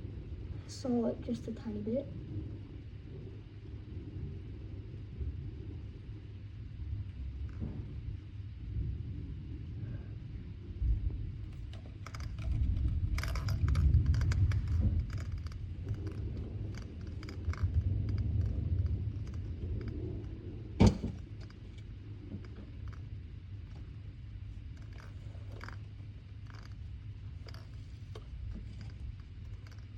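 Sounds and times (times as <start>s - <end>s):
low rumble of thunder: 0.0s - 29.9s.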